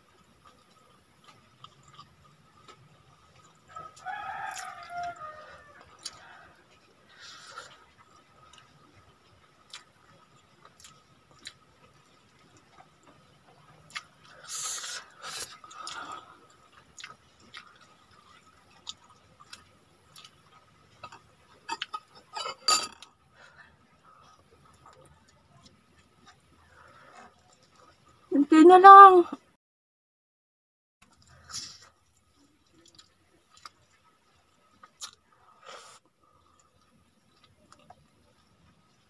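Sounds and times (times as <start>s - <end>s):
person chewing rice: 0.0s - 28.3s, 31.0s - 39.0s.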